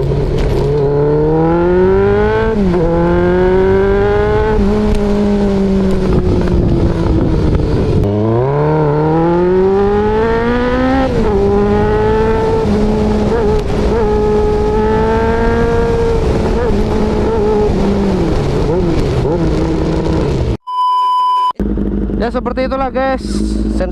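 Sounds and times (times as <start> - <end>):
motorcycle engine accelerating hard: 0.0 - 20.6, 21.6 - 23.9.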